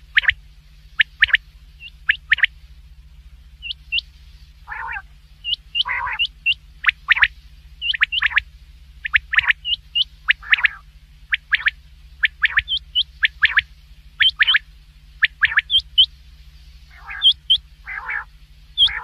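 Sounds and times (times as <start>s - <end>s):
quail whistled calls: 0.0s - 0.4s, 1.0s - 2.5s, 3.6s - 16.2s, 16.9s - 19.0s
rasping calls: 0.0s - 0.4s, 1.0s - 2.5s, 3.6s - 16.2s, 16.8s - 19.0s
steady low hum: 0.0s - 19.0s
short upturned chirps: 1.0s - 2.5s, 3.6s - 16.2s, 16.8s - 19.0s.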